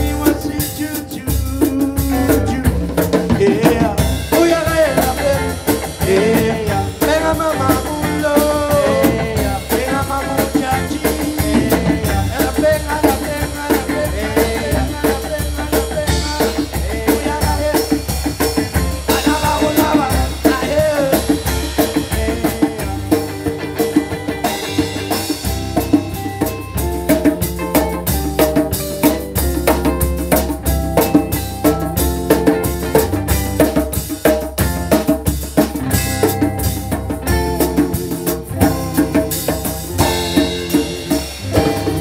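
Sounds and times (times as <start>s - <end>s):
electric guitar: 0.0s - 42.0s
hand drums: 0.0s - 42.0s
reggae band playing: 0.0s - 42.0s.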